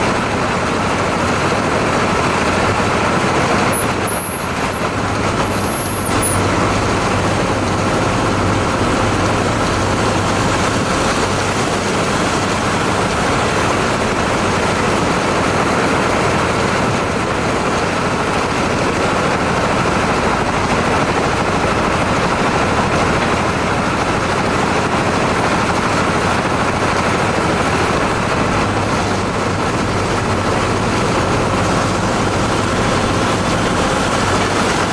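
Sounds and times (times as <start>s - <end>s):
drilling machine running: 0.0s - 34.9s.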